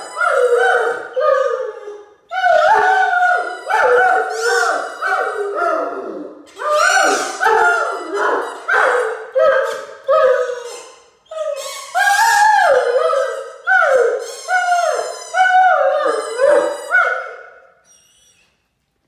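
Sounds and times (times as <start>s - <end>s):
squeaky toy squeaking: 0.0s - 1.6s, 2.4s - 5.8s, 6.5s - 18.5s
dog howling: 0.0s - 10.7s, 11.4s - 17.5s.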